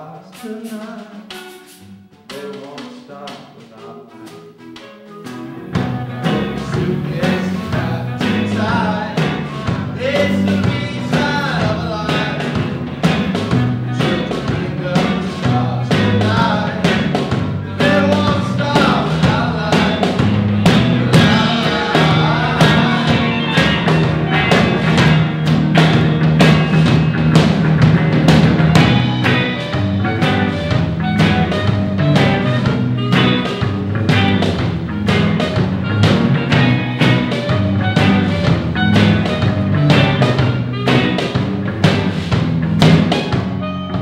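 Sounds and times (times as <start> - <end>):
drums steady beat: 0.0 - 44.0
rock band playing: 0.0 - 44.0.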